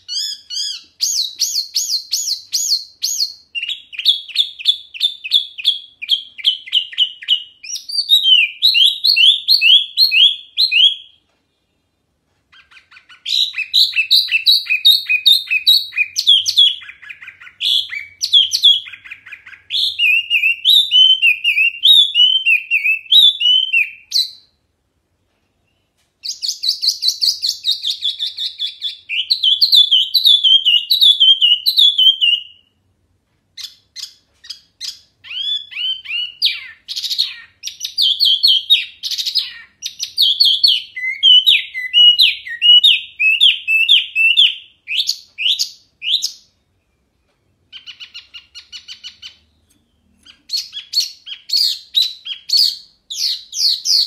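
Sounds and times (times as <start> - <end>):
songbird chirping and trilling: 0.0 - 11.9, 12.5 - 24.7, 25.6 - 32.9, 33.6 - 54.0.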